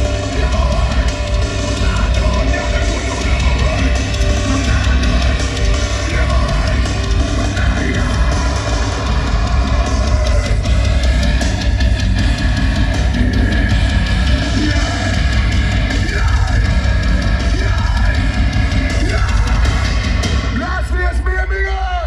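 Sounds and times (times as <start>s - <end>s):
electric guitars: 0.0s - 21.2s
drum kit: 0.0s - 22.0s
heavy bass: 0.0s - 22.0s
heavy metal band playing live: 0.0s - 22.0s.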